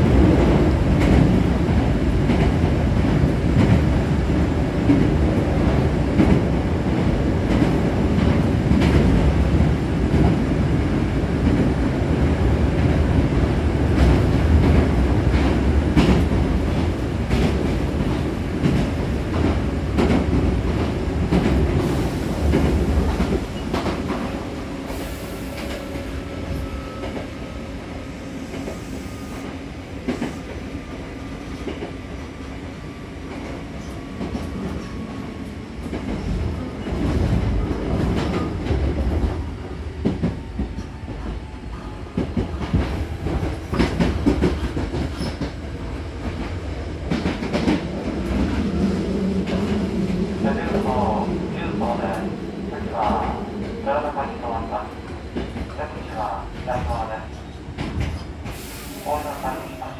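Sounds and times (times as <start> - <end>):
electric train rumble and whine: 0.0 - 59.9.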